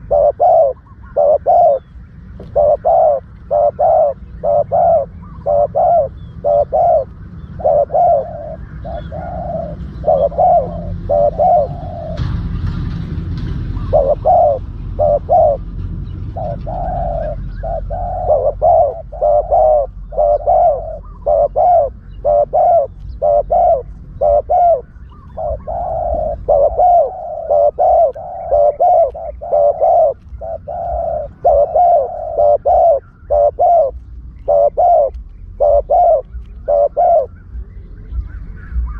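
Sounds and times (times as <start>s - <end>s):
doves cooing: 0.0s - 38.9s
low rumble: 0.0s - 38.9s.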